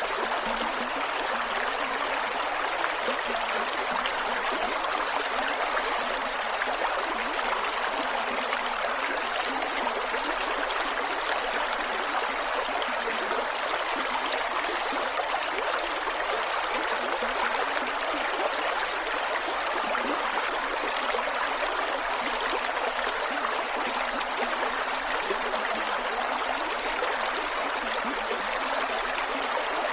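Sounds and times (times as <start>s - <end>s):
creek water flowing over rocks: 0.0s - 29.9s.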